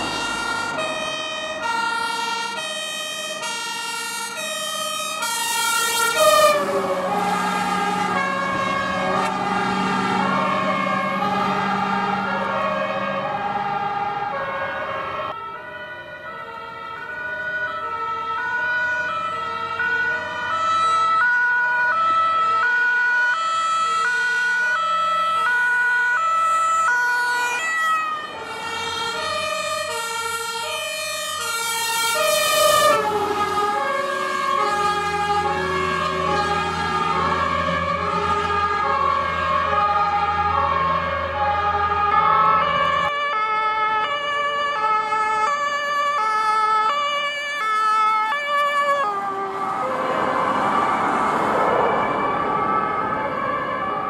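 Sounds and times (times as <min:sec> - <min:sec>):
fire engine two-tone sirens: 0:00.0 - 0:54.0.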